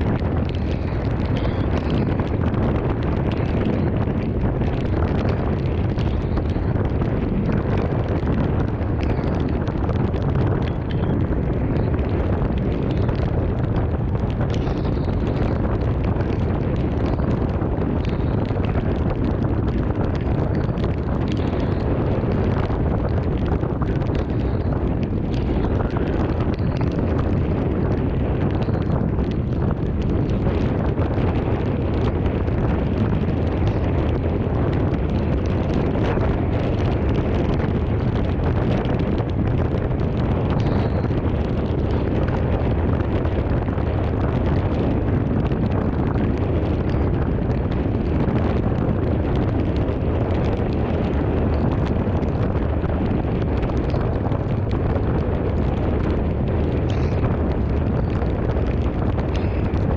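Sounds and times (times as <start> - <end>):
fine crackle: 0.0 - 59.9
wind buffeting microphone: 0.0 - 59.9.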